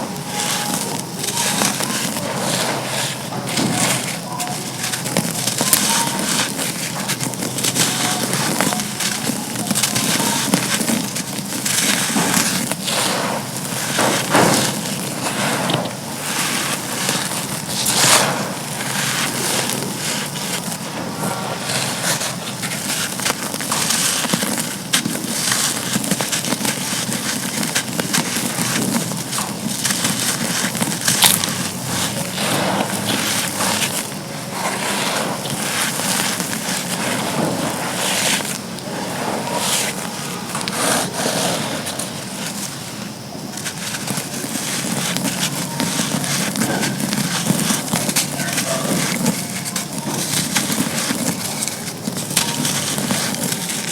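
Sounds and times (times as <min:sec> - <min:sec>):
charcoal crunching: 0:00.0 - 0:53.9.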